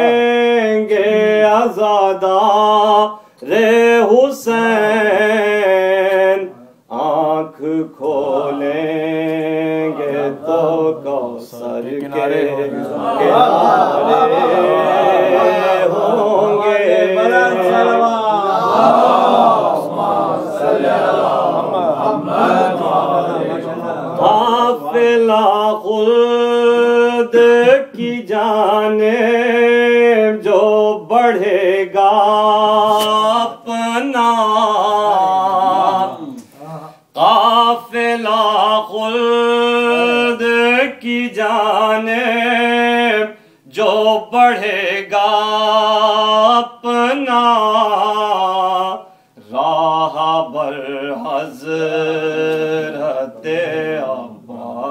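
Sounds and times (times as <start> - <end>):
man chanting a lament: 0.0 - 54.9
several voices chanting together: 4.9 - 26.4, 32.4 - 54.9.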